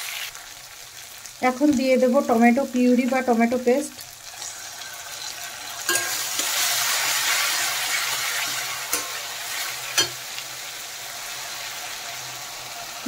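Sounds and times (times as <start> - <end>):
sauce sizzling in hot oil: 0.0 - 13.0.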